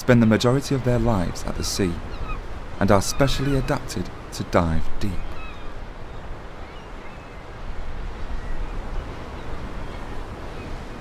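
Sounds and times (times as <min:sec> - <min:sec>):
sea surf: 0:00.0 - 0:11.0
faint seabird calls: 0:01.0 - 0:11.0.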